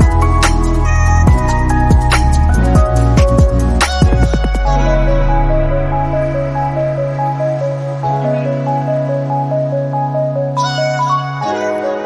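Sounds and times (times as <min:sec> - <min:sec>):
electronic music with repeating melody: 0:00.0 - 0:12.0.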